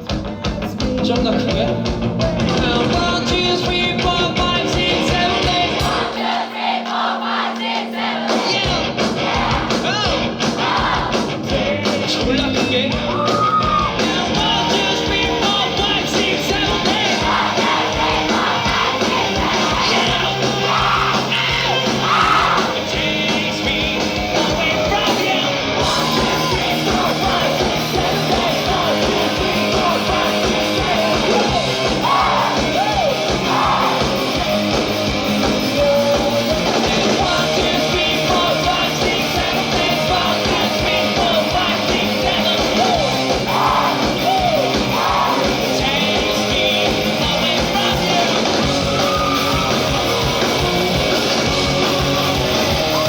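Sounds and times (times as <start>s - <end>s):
drum beat: 0.0s - 53.0s
lead vocalist singing: 0.0s - 53.0s
live rock band playing: 0.0s - 53.0s.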